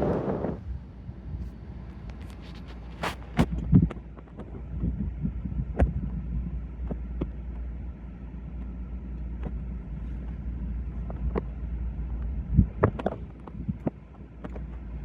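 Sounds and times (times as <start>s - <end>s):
vehicle rumbling in motion: 0.0s - 15.0s.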